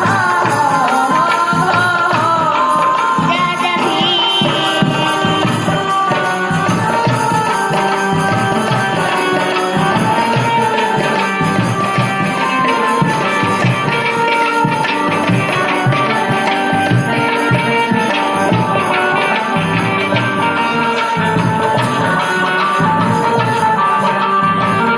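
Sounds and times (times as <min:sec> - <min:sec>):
folk song melody with percussion: 0:00.0 - 0:24.9
person singing: 0:00.0 - 0:24.9.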